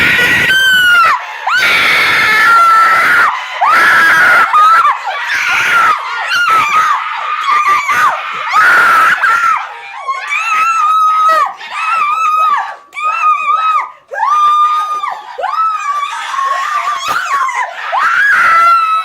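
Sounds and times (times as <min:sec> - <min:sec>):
people screaming: 0:00.0 - 0:19.0.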